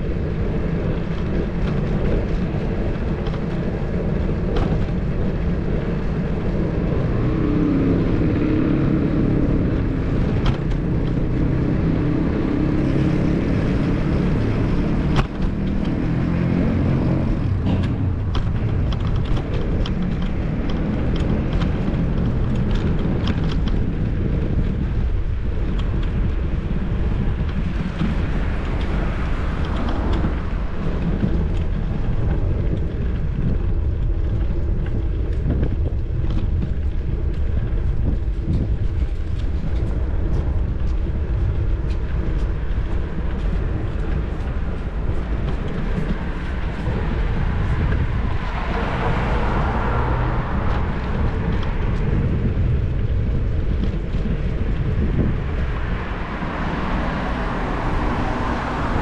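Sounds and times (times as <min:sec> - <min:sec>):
bicycle road noise: 0:00.0 - 0:59.0
wind rumble: 0:00.0 - 0:59.0
small rattles and clicks: 0:00.1 - 0:59.0.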